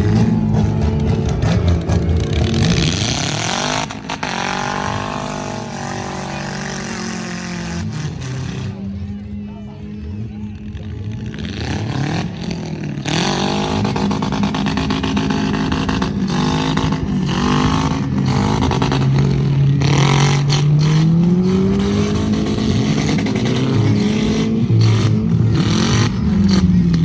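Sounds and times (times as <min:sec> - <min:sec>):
vehicle engines revving hard: 0:00.0 - 0:27.0.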